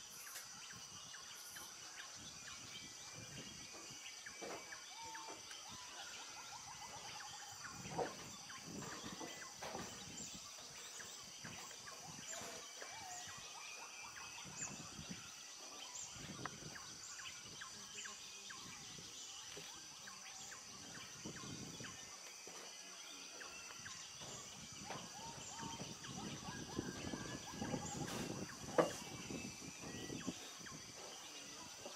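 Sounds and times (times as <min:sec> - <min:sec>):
birds calling and chirping: 0:00.0 - 0:31.9.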